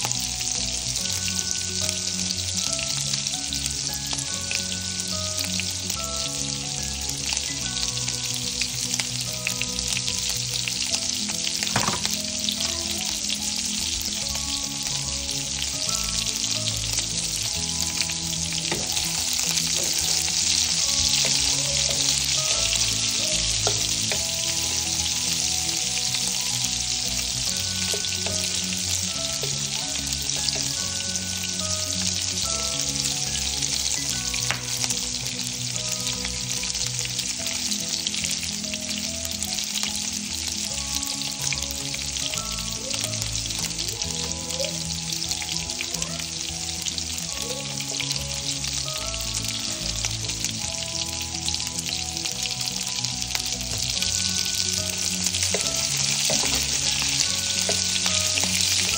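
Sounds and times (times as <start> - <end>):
sausages sizzling in oil: 0.0 - 58.9.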